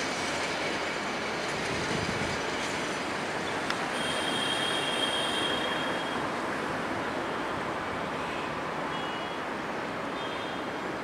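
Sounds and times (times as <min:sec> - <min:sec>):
train rumbling along track: 0:00.0 - 0:11.0.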